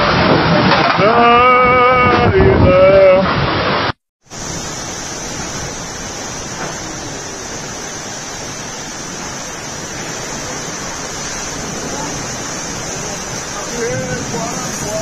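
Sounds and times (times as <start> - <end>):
heavy rain: 0.0 - 15.0
strong wind: 0.0 - 15.0.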